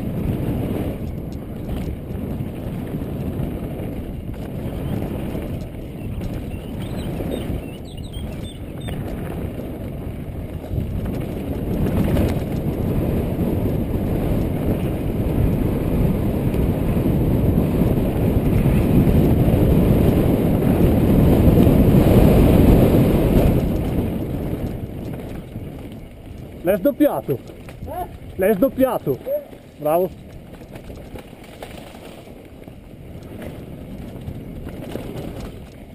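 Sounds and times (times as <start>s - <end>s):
bike tyres rumbling on gravel: 0.0s - 35.9s
wind rush: 0.0s - 35.9s.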